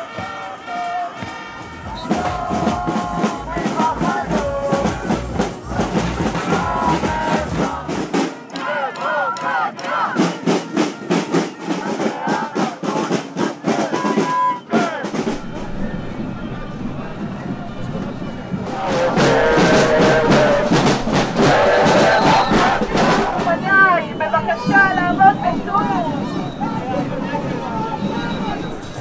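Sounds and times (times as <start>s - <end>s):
marching drums: 0.0s - 16.2s, 18.6s - 29.0s
crowd chanting and shouting: 0.0s - 29.0s.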